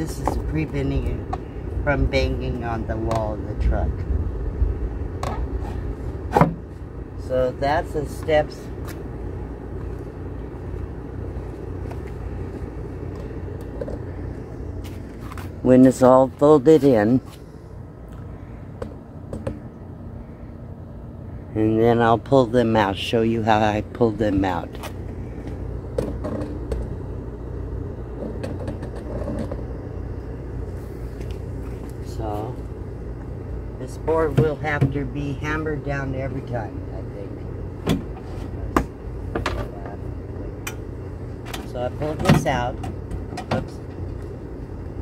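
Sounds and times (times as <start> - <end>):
low rumble with hum: 0.0 - 45.0.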